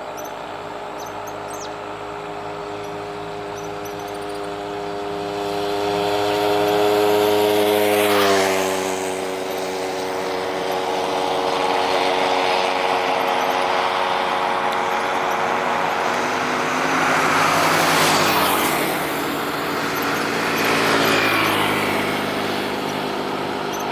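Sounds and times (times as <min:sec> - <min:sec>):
vehicles passing by: 0:00.0 - 0:23.9.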